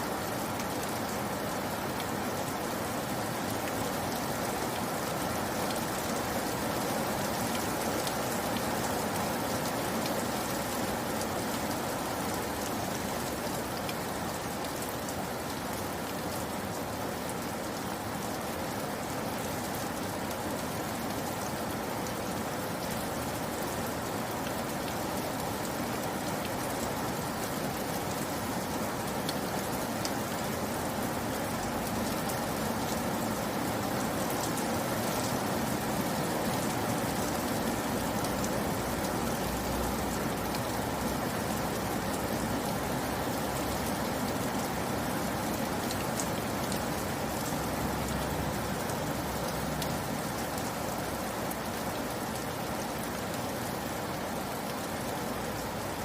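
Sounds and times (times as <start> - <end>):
raindrops pattering on surface: 0.0 - 56.0
steady rain hiss: 0.0 - 56.0.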